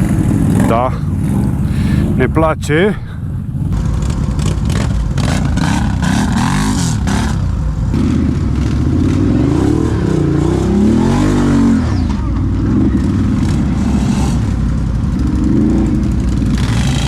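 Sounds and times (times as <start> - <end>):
atv engines revving: 0.0 - 17.0.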